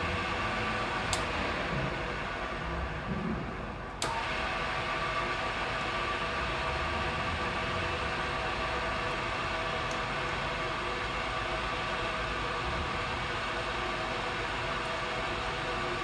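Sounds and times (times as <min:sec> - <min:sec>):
milling machine spindle humming: 0:00.0 - 0:16.0.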